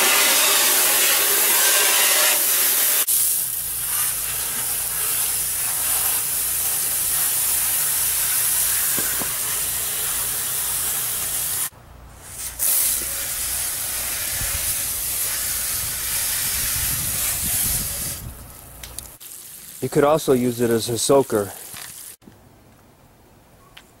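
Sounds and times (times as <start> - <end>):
water jets spraying: 0.0 - 22.2.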